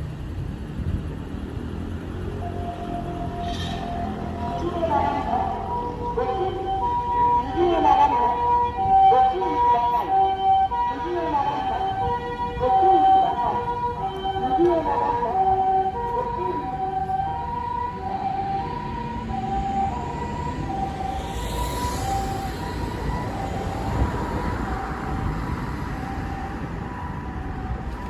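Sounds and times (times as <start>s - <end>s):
passing vehicle noise: 0.0s - 10.9s, 11.6s - 28.0s
road traffic rumble: 0.0s - 28.0s
two-tone electronic siren: 2.3s - 28.0s.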